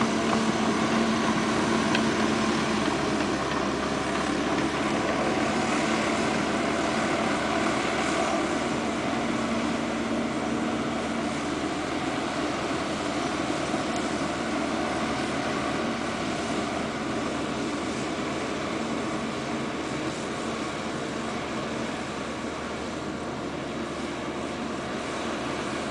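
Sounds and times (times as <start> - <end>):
excavator diesel engine droning: 0.0 - 25.9.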